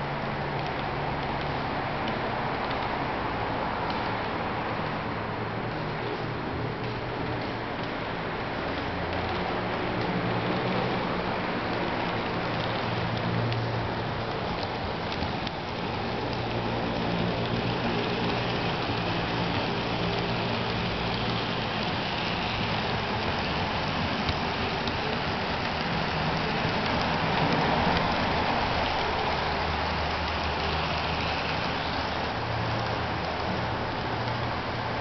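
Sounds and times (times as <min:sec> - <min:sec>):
model train wheels rattling on rails: 0:06.8 - 0:35.0.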